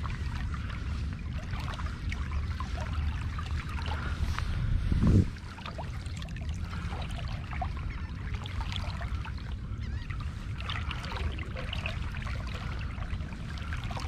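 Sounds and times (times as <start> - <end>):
steady low rumble: 0.0 - 14.0
water trickling and splashing: 0.0 - 14.0.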